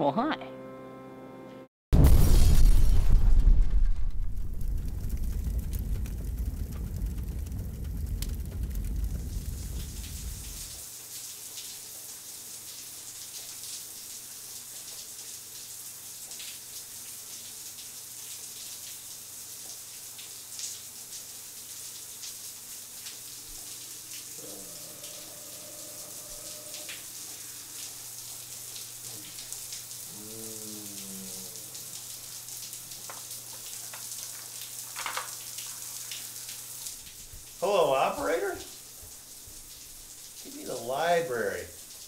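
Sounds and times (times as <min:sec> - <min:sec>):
shower water spraying on tiles: 0:04.6 - 0:42.0.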